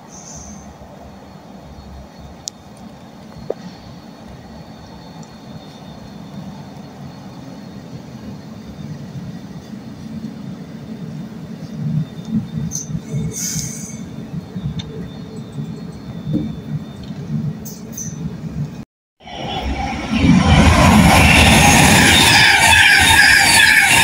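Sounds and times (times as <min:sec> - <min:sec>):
electric train approaching: 0:00.0 - 0:24.0.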